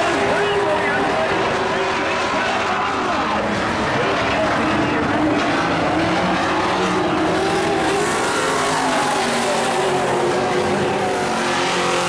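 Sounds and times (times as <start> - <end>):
race truck engines: 0.0 - 12.0.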